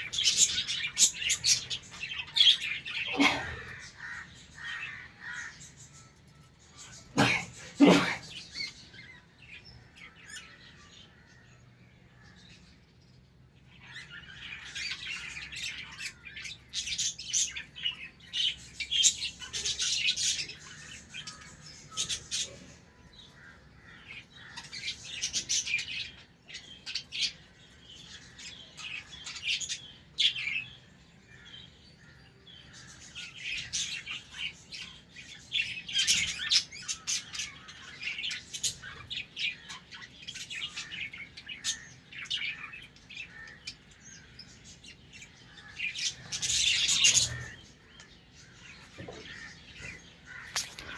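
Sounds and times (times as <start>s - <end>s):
budgerigars chattering and chirping: 0.0s - 11.4s, 13.7s - 50.9s.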